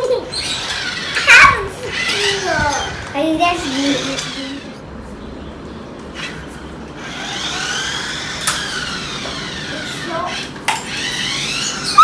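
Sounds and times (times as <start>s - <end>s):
toy car motor whining: 0.0s - 4.8s, 6.2s - 12.0s.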